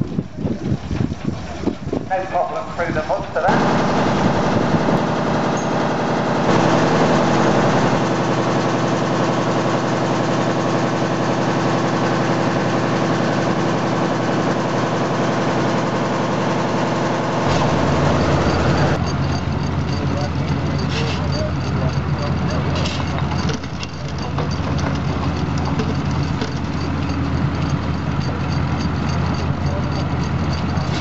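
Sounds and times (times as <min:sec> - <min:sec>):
stationary engine running: 0:02.9 - 0:31.0.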